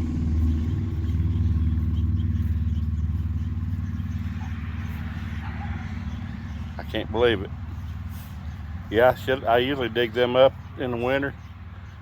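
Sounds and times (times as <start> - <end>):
small vehicle engine droning: 0.0 - 12.0.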